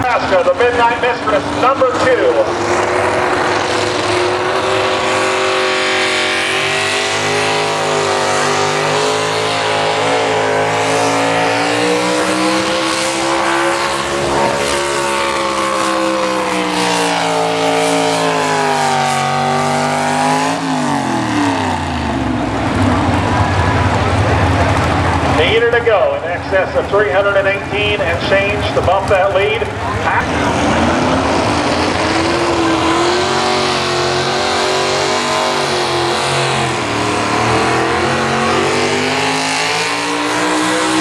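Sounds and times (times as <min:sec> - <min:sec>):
truck engine running hard: 0:00.0 - 0:41.0.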